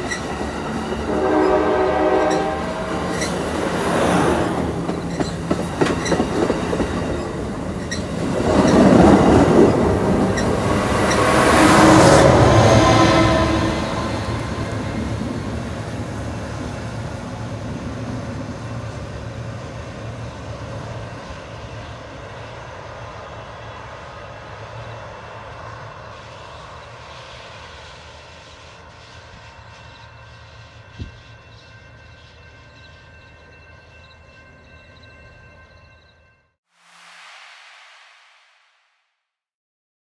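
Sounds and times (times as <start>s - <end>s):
train rumbling on tracks: 0.0s - 36.3s.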